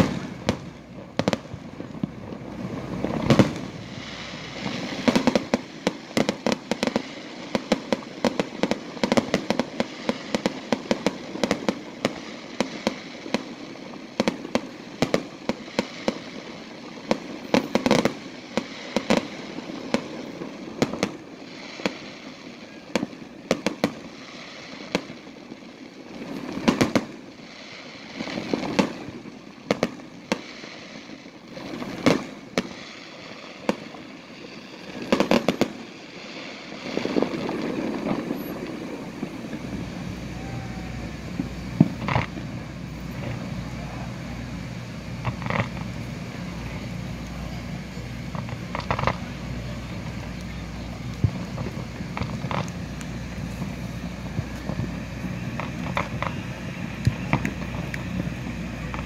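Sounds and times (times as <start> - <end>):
fireworks bangs: 0.0 - 59.0
fireworks crackle: 0.0 - 59.0.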